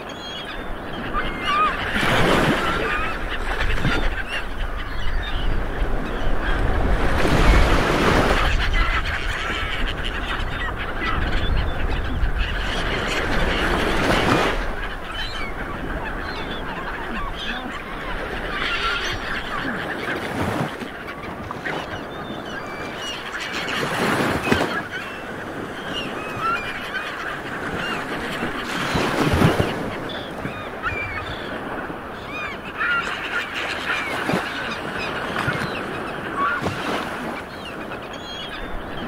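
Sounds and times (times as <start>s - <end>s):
birds honking: 0.0s - 39.0s.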